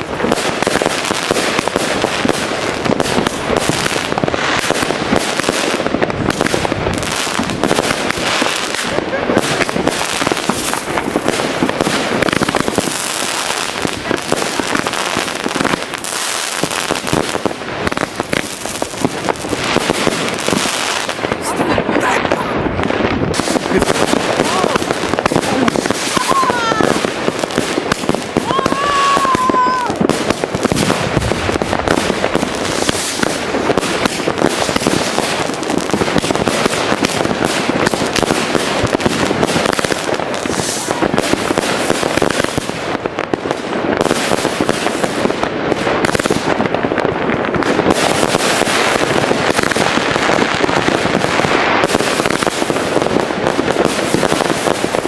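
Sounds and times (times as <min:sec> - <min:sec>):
fireworks barrage: 0:00.0 - 0:55.0.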